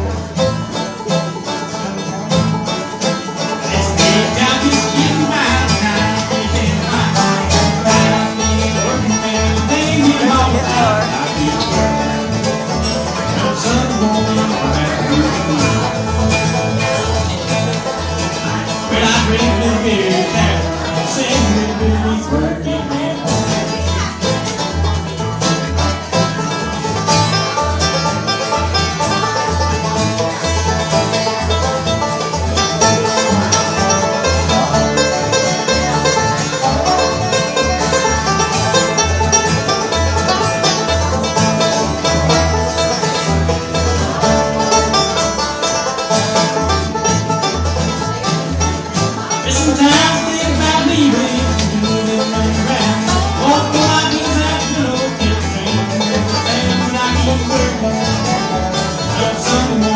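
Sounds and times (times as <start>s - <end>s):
bluegrass band playing: 0.0s - 59.9s
upright bass plucking: 0.0s - 59.9s.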